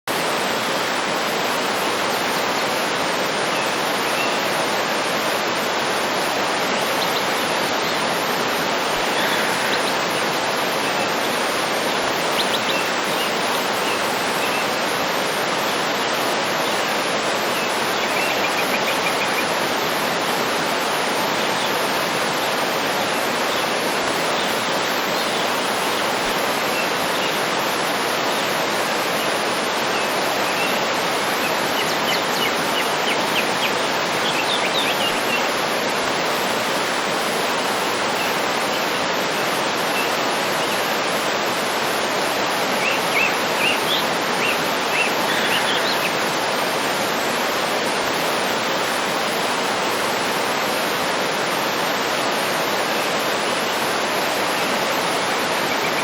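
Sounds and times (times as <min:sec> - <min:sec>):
faint bird chirps and trills: 0:00.1 - 0:20.0, 0:20.8 - 0:56.0
waterfall rushing: 0:00.1 - 0:56.0.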